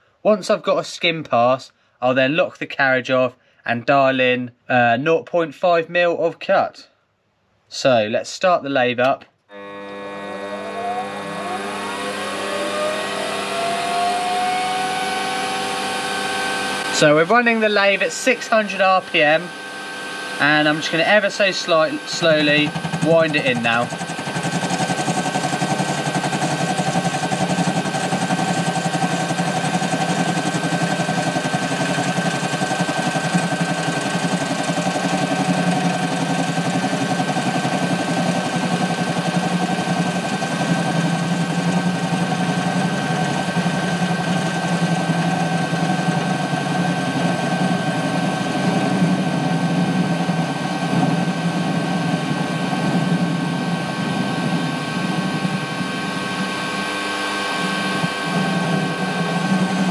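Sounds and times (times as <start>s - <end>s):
lathe motor whine: 9.5s - 59.9s.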